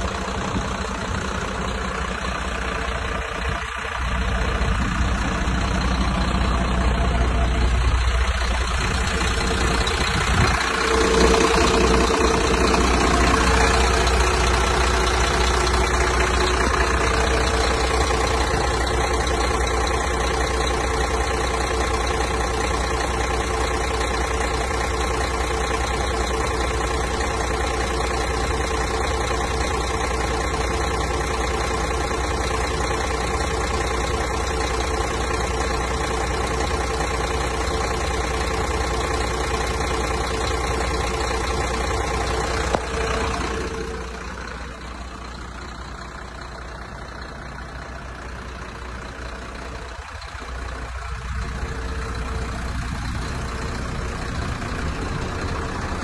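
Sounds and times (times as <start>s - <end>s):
truck diesel engine idling: 0.0s - 56.0s.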